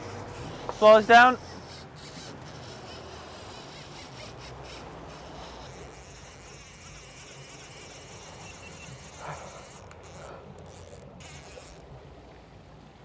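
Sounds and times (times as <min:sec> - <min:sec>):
boat engine running: 0:00.0 - 0:13.0
wind and water wash: 0:00.0 - 0:13.0.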